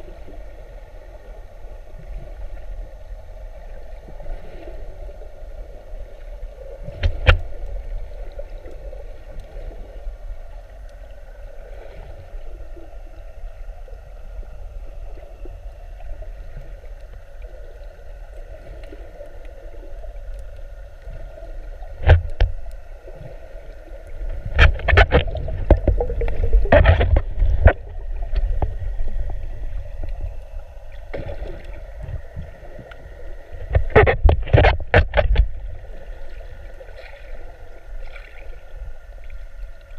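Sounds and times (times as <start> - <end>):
muffled water sloshing: 0.0 - 39.9
steady low hum: 0.0 - 39.9.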